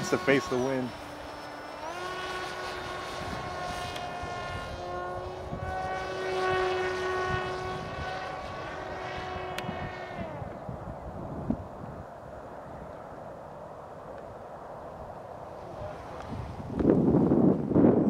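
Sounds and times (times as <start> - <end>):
electric motor and propeller whining: 0.0 - 18.0.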